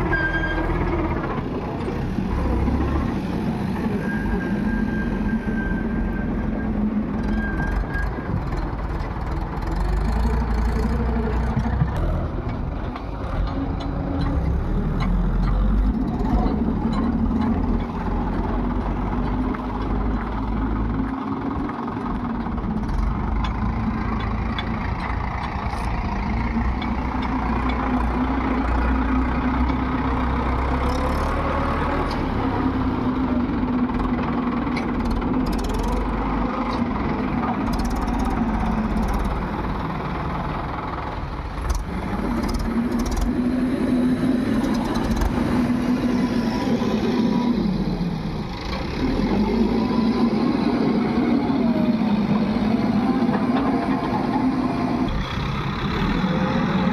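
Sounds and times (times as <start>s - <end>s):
backhoe diesel engine under load: 0.0s - 56.9s.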